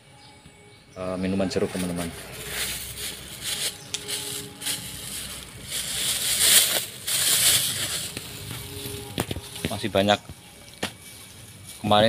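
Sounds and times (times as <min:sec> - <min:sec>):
rustling crackling noise: 0:01.7 - 0:12.0.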